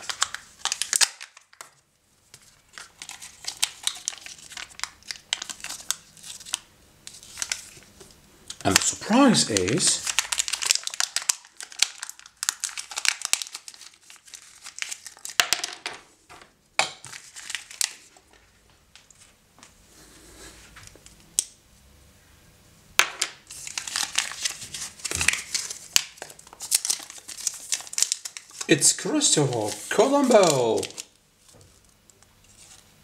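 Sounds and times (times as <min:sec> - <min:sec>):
wrapping crinkling: 0:00.0 - 0:15.7, 0:17.0 - 0:19.2, 0:23.4 - 0:33.0.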